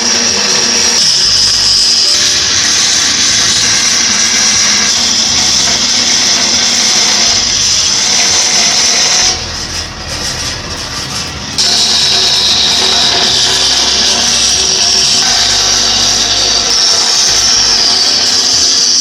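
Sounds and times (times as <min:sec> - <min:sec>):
power tool whining on wood: 0:00.0 - 0:19.0.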